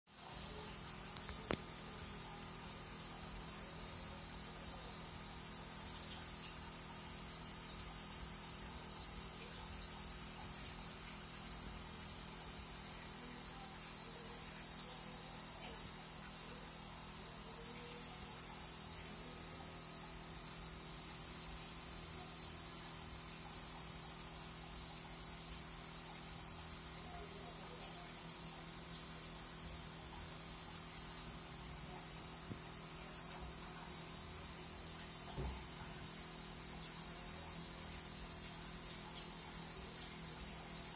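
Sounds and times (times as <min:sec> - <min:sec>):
cricket chirping: 0:00.2 - 0:40.9.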